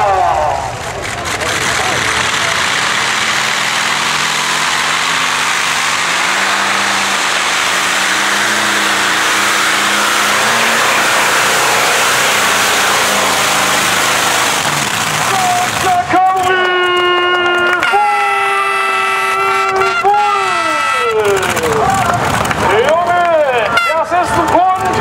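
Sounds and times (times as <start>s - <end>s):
aircraft engine roaring: 0.0s - 22.7s.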